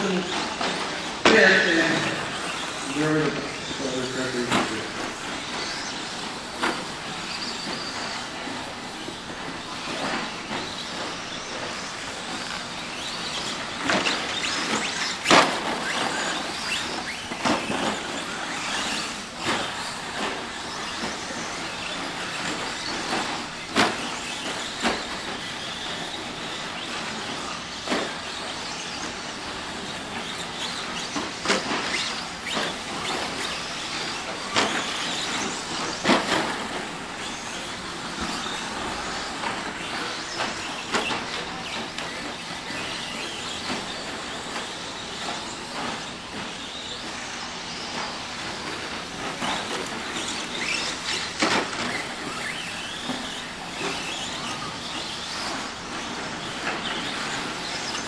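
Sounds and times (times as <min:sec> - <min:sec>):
rc truck motors and tyres: 0:00.0 - 0:58.0.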